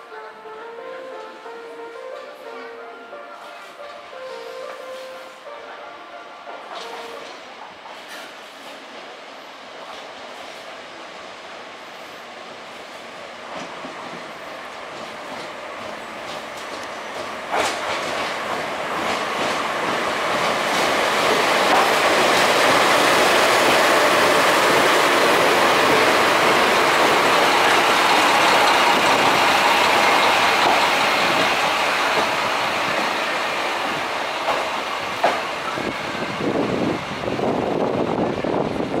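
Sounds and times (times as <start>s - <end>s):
train rolling past on rails: 0.0s - 39.0s.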